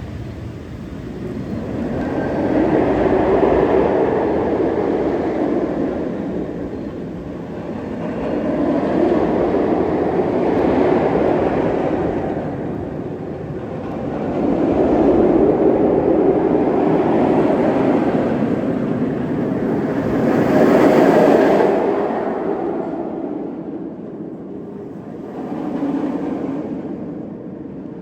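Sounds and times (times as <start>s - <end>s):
roller coaster rumbling on track: 0.0s - 28.0s.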